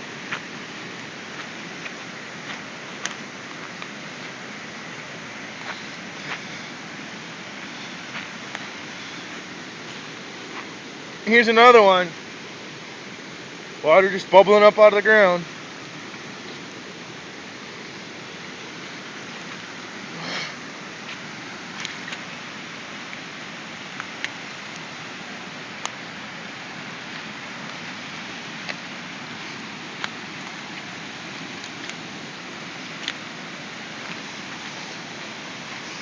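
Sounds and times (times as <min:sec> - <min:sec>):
water drips and splashes: 0:00.0 - 0:11.2, 0:15.2 - 0:36.0
water rushing: 0:00.0 - 0:36.0.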